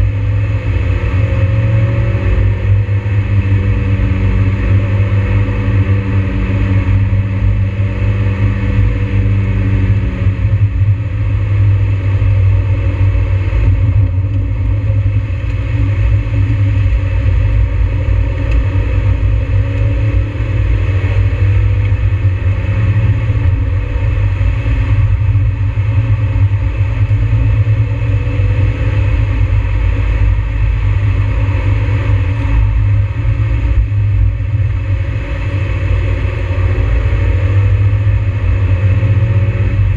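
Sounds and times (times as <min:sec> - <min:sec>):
car engine accelerating: 0:00.0 - 0:39.9
low road drone: 0:00.0 - 0:39.9.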